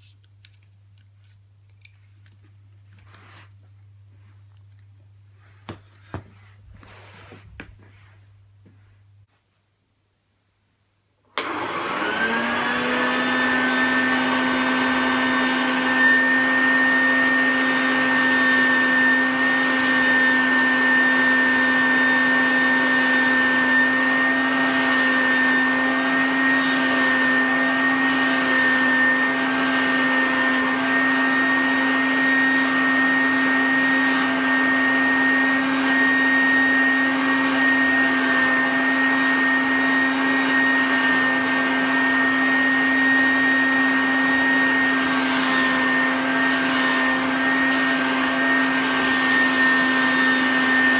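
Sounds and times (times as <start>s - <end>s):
vacuum cleaner running: 5.4s - 9.0s, 11.3s - 50.9s.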